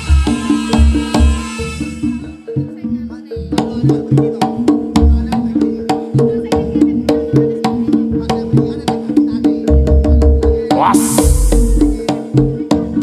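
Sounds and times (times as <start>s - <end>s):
percussion ensemble music: 0.0s - 13.0s.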